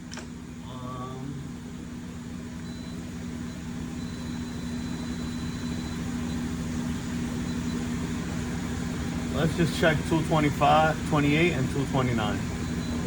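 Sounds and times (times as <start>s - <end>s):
faint high whine: 0.0s - 13.0s
machine shop machinery humming: 0.0s - 13.0s.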